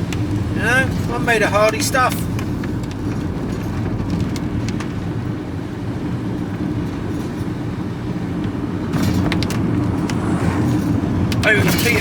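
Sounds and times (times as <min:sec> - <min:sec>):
engine and road rumble in cab: 0:00.0 - 0:12.0.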